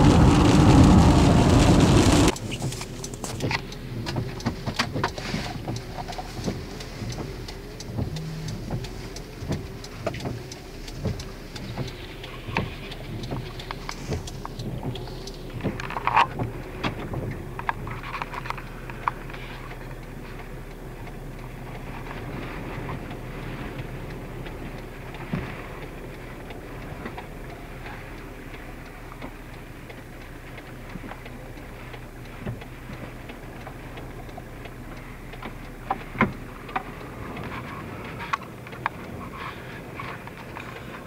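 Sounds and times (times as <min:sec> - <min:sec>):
low vehicle hum: 0:00.0 - 0:41.0
raindrops ticking on a car: 0:00.0 - 0:41.0.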